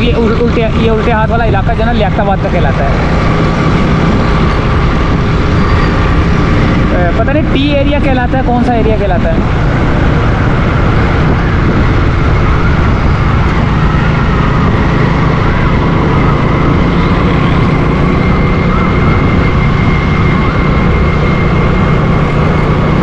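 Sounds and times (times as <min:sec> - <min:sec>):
motorcycle engine drone: 0:00.0 - 0:23.0
wind rumble on microphone: 0:00.0 - 0:23.0.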